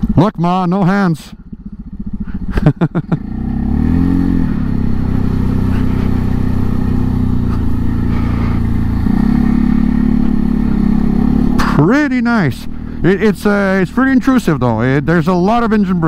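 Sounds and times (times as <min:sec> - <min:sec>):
engine braking drone: 0:01.4 - 0:16.0.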